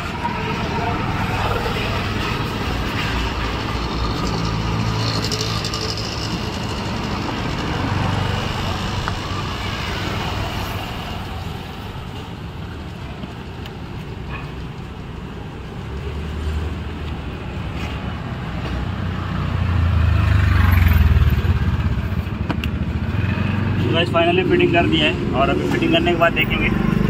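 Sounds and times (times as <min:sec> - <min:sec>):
vehicle passing: 0:00.0 - 0:13.0, 0:16.0 - 0:27.0
road traffic rumbling: 0:00.0 - 0:27.0.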